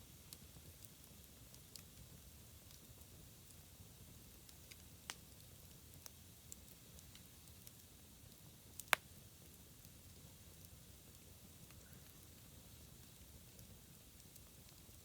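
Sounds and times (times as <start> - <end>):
faint fire hiss: 0.0 - 15.0
campfire crackling and popping: 0.1 - 15.0.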